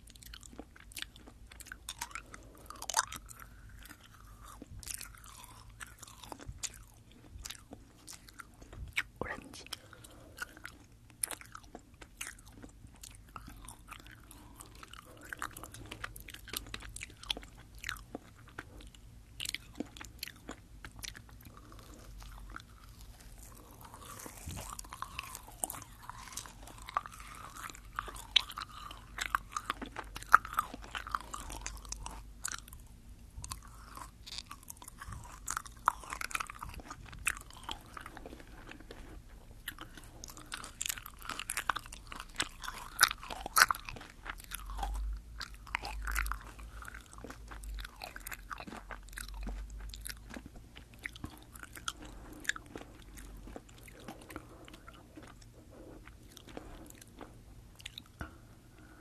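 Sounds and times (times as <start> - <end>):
chewing gummy candy: 0.0 - 59.0.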